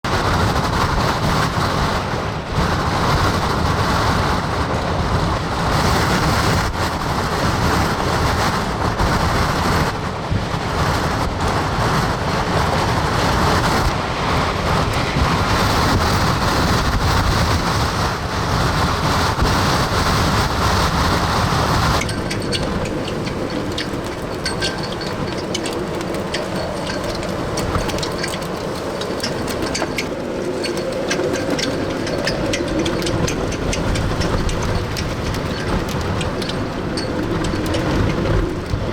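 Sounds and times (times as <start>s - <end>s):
wind howling on microphone: 0.0s - 38.9s.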